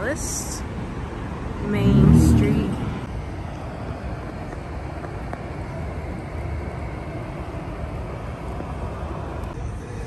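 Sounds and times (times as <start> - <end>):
low rumble of car traffic: 0.0 - 10.0.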